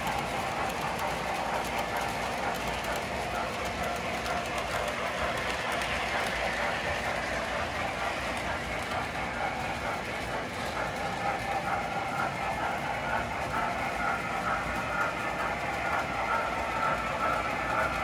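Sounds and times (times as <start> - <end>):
model train wheels clattering on rails: 0.0 - 18.0.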